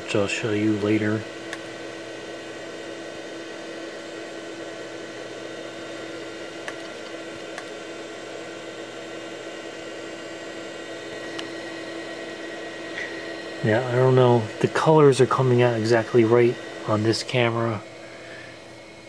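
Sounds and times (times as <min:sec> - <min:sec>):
electrical hum: 0:00.0 - 0:19.0
fan whir: 0:00.0 - 0:19.0.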